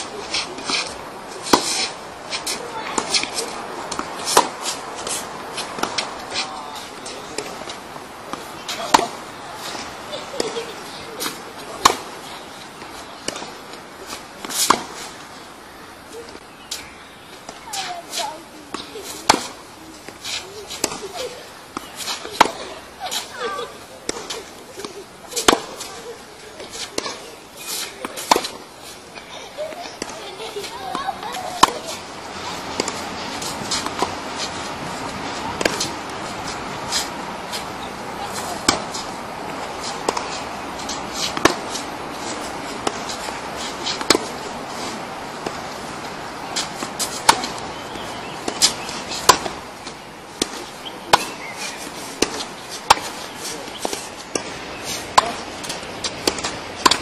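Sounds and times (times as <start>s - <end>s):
tennis racket hitting ball: 0.0s - 12.2s, 12.9s - 15.1s, 17.5s - 28.6s, 29.9s - 57.0s
steady background hiss: 0.0s - 57.0s.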